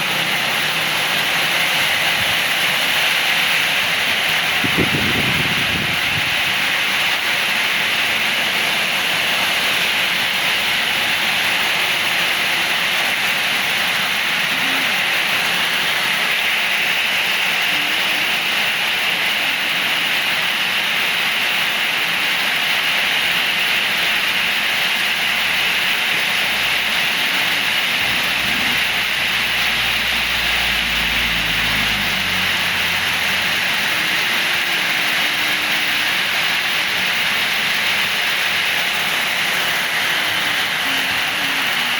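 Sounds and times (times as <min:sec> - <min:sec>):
heavy rain in strong wind: 0:00.0 - 0:41.9.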